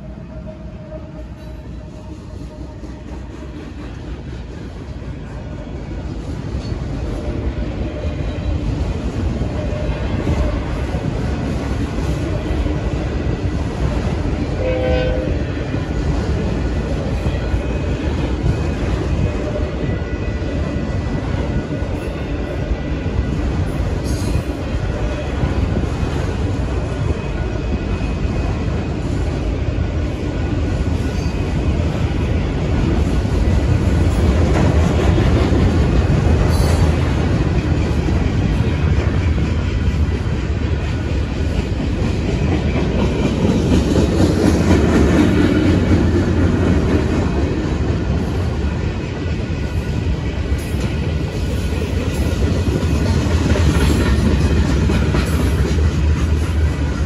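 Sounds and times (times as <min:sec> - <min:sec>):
steel wheels rumbling on rails: 0:00.0 - 0:57.0.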